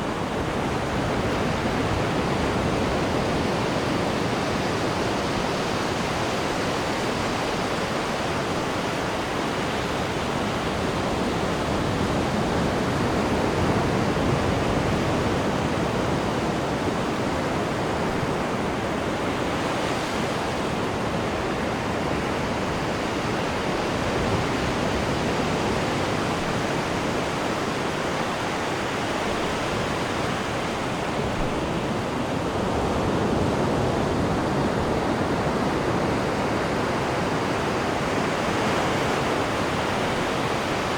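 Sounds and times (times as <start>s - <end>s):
sea water rushing in ship wake: 0.0s - 40.9s.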